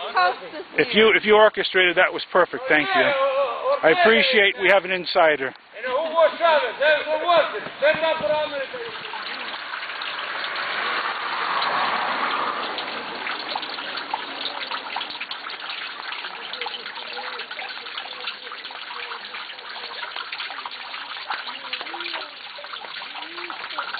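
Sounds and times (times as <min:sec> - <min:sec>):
rainwater running down drain: 0:03.8 - 0:23.9
water drips and splashes: 0:03.9 - 0:23.9.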